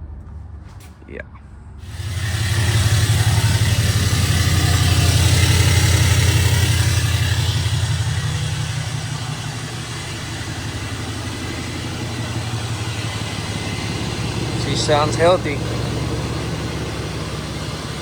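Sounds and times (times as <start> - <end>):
pickup truck engine idling: 1.8 - 18.0.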